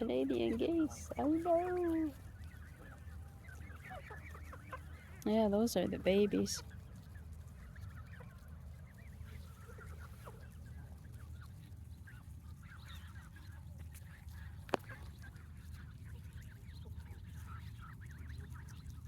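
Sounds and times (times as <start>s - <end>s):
geese calling softly: 0.0s - 19.0s.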